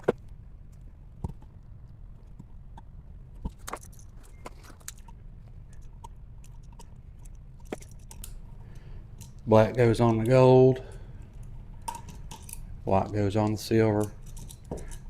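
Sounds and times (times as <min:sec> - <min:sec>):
steady low hum: 0:00.0 - 0:15.0
clicks and clinks of small parts: 0:02.2 - 0:15.0.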